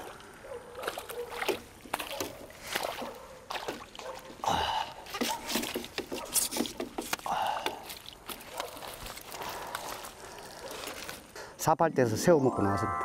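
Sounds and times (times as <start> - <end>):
fish splashing and flapping: 0.0 - 11.2.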